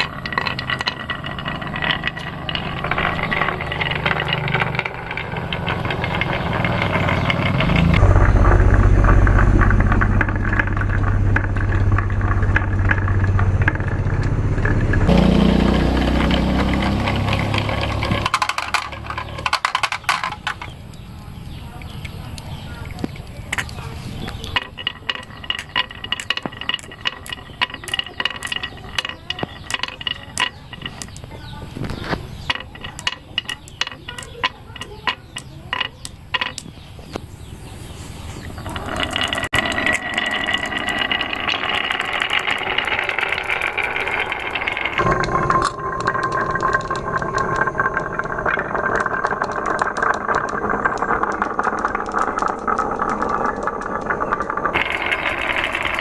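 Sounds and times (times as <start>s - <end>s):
marbles rolling down wooden run: 0.0s - 21.5s, 22.6s - 56.0s.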